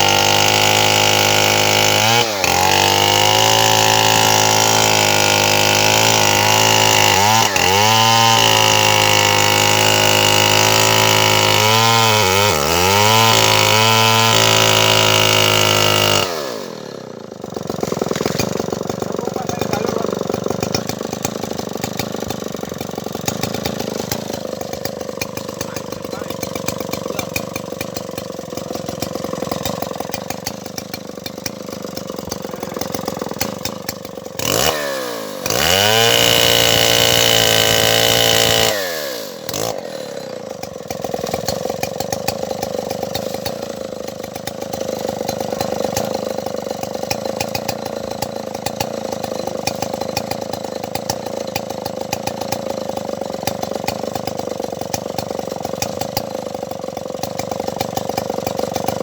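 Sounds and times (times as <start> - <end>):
chainsaw engine idling and revving: 0.0 - 59.0.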